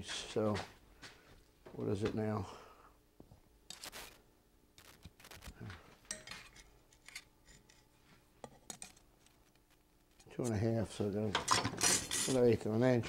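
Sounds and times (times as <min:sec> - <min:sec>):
faint shop hum: 0:00.0 - 0:13.0.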